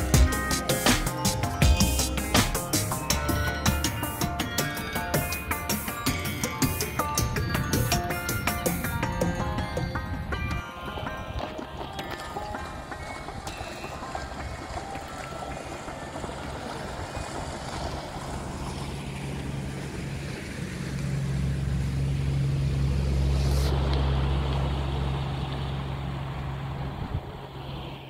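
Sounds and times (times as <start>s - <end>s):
engine humming passing by: 0.0s - 28.0s.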